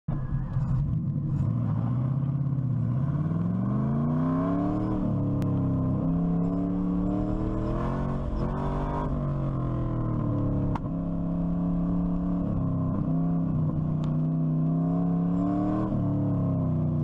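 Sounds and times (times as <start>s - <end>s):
engine accelerating hard: 0.1s - 17.0s.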